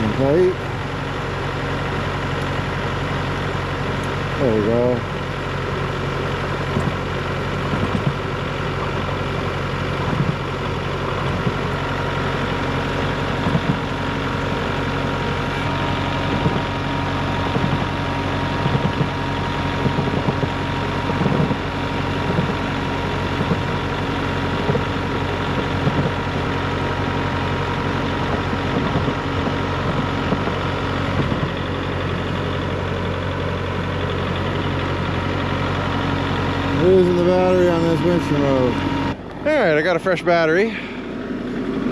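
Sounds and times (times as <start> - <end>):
heavy vehicle engine idling: 0.0 - 41.9.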